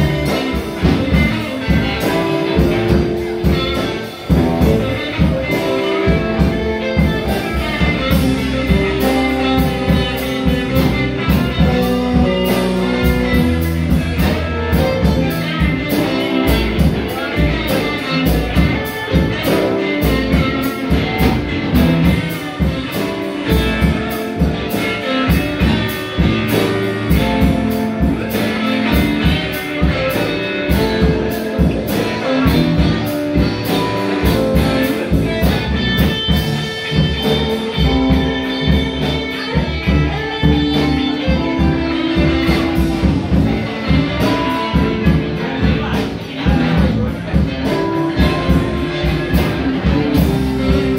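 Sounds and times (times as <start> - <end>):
live rock band playing: 0.0 - 50.9
steady drum beat: 0.0 - 50.9.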